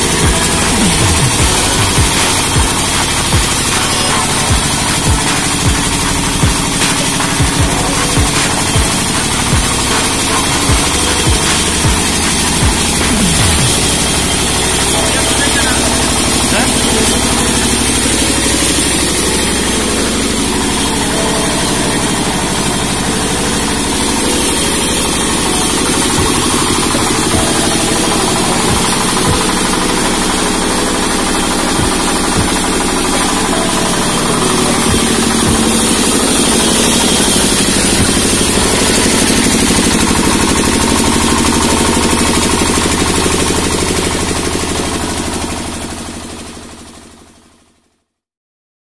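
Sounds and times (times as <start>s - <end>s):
wood planer motor spinning: 0.0s - 47.6s
diesel generator chugging: 0.0s - 47.8s.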